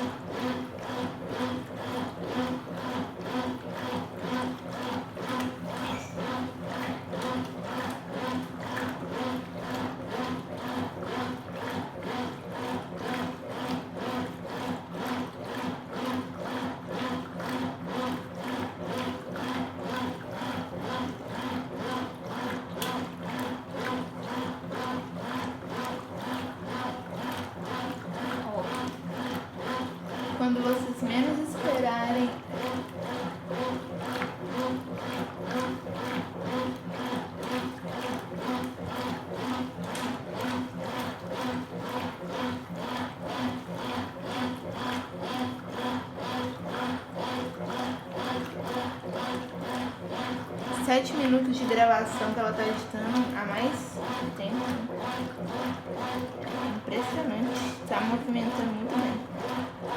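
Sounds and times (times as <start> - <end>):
agitator swishing water: 0.0 - 59.9
washing machine motor humming: 0.0 - 59.9.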